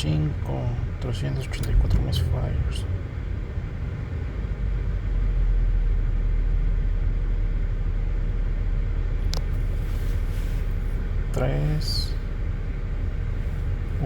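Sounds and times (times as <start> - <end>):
car engine idling with misfire: 0.0 - 14.0.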